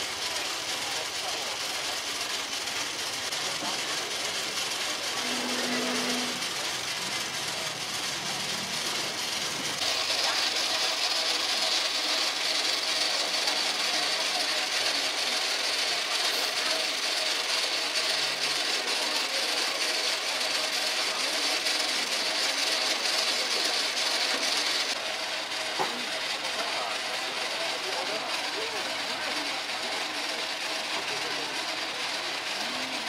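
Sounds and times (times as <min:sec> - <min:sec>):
mechanical whirring with hiss: 0:00.0 - 0:33.0.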